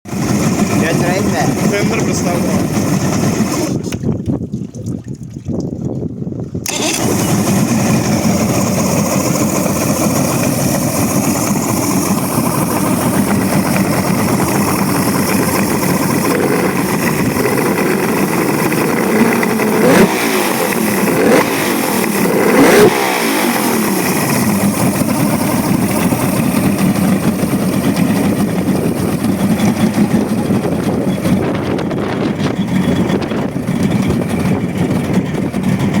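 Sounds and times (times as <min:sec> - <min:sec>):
outboard motor running and revving: 0:00.0 - 0:04.2, 0:06.6 - 0:36.0.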